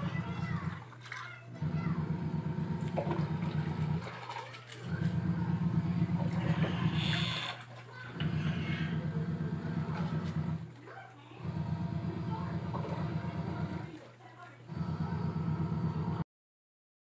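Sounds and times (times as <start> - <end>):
washing machine motor humming: 0.0 - 16.2
water swishing in drum: 0.0 - 16.2.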